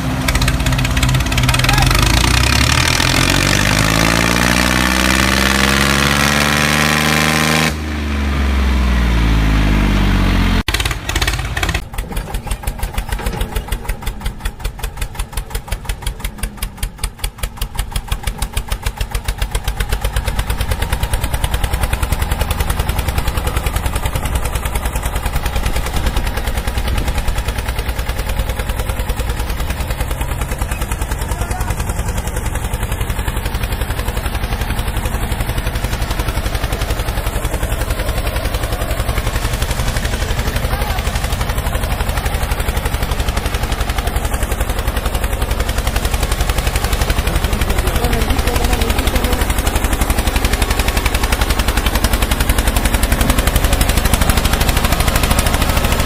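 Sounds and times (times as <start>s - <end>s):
tractor engine chugging: 0.0s - 5.9s, 10.6s - 56.0s.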